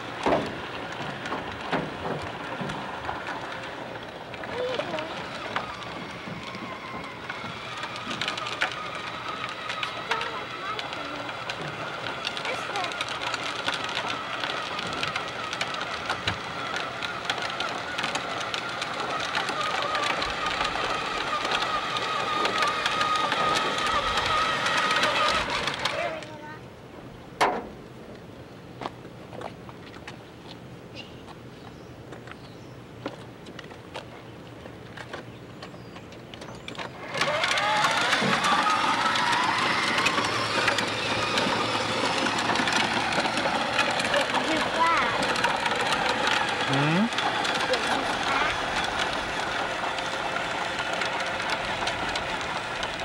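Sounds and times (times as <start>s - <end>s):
small motor whining: 0.0s - 26.6s, 36.2s - 53.0s
clicking and rattling: 0.1s - 26.4s, 36.1s - 53.0s.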